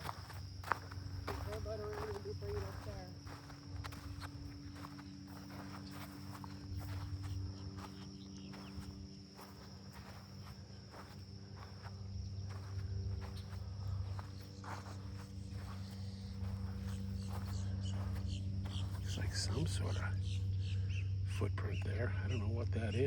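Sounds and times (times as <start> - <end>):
footsteps on a trail: 0.0 - 20.5
insect high-pitched trill: 0.0 - 23.0
low steady hum: 0.0 - 23.0.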